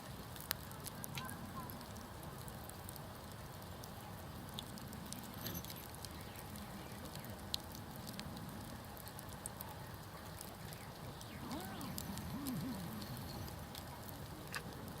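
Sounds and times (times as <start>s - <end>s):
campfire burning with crackles: 0.0s - 15.0s.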